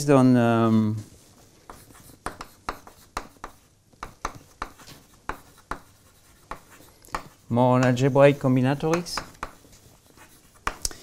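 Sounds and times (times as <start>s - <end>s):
chalk tapping and scratching: 1.1s - 11.0s.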